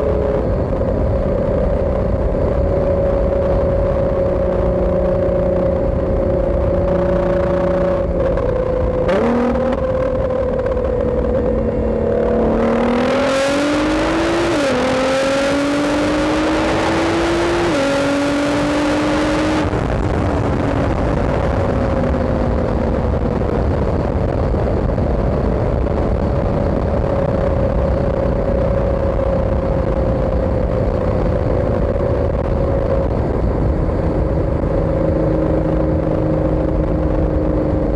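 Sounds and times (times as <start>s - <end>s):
car engine accelerating: 0.0s - 37.9s.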